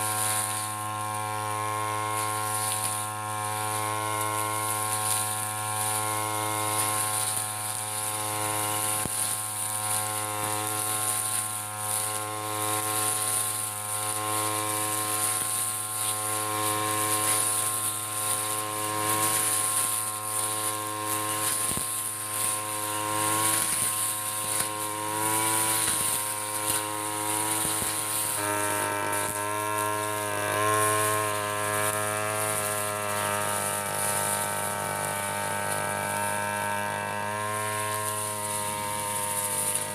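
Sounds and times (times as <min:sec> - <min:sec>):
brush cutter engine cutting grass: 0:00.0 - 0:39.9.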